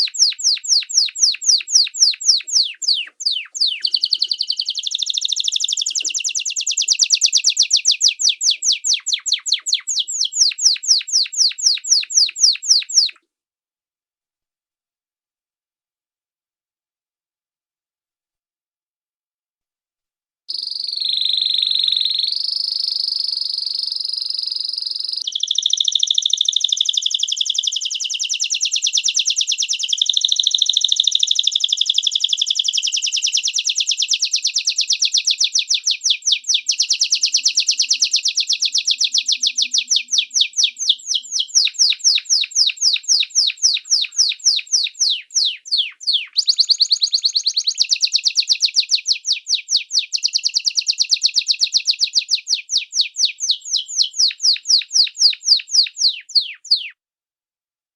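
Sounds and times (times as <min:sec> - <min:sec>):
songbird trilling: 0:00.0 - 0:13.2, 0:20.5 - 0:56.9.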